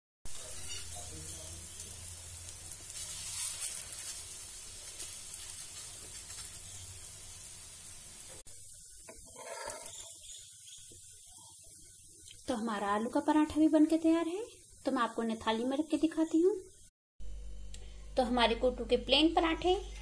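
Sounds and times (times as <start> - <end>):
ghee sizzling: 0.3 - 16.9.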